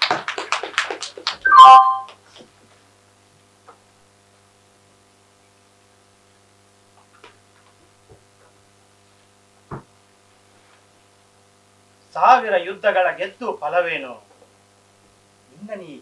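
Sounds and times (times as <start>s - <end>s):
faint mains hum: 0.0s - 16.0s.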